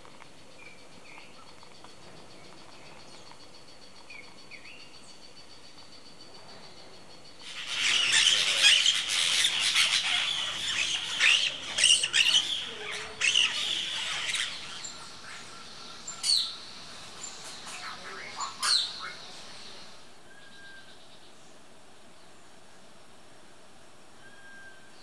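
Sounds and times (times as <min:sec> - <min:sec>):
harsh forest bird calls: 0:00.5 - 0:21.5.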